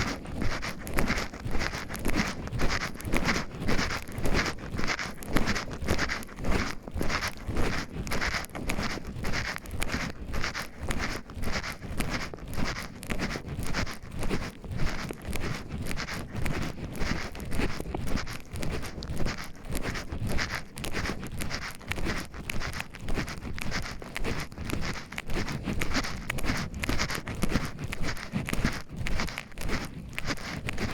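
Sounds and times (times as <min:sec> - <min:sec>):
footsteps on forest path: 0:00.0 - 0:30.9.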